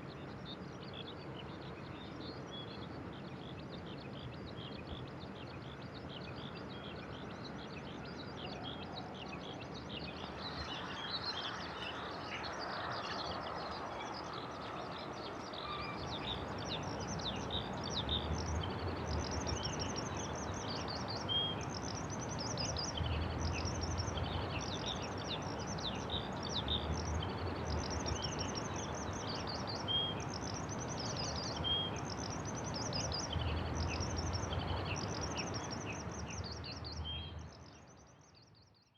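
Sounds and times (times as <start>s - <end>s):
low background noise: 0.0s - 38.9s.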